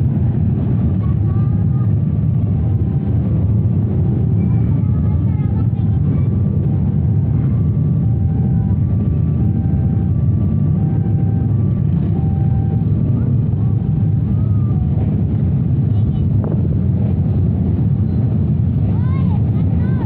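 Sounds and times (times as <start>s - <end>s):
train rumbling from on board: 0.0s - 20.0s.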